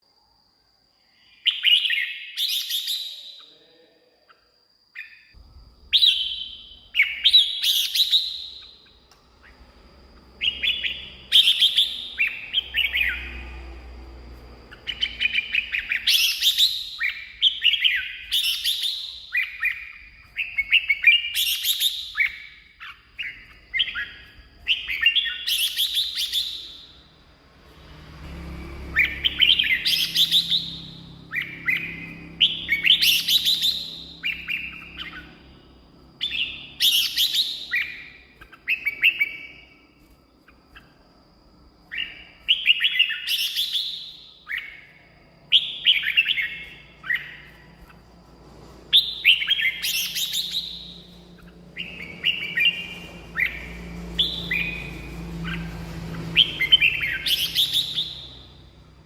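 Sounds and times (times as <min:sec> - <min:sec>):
bird singing whistled notes: 0:01.0 - 0:48.3, 0:48.9 - 0:59.0.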